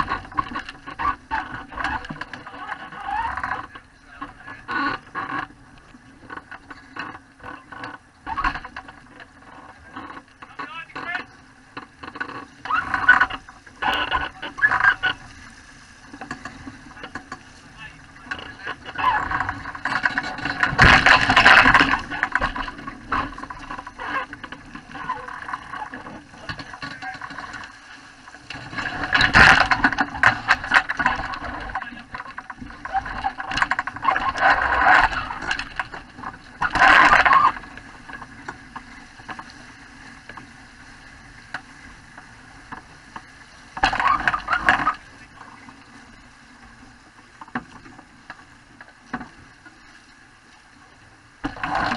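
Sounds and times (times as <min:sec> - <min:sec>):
water splashing along boat hull: 0:00.0 - 0:51.9.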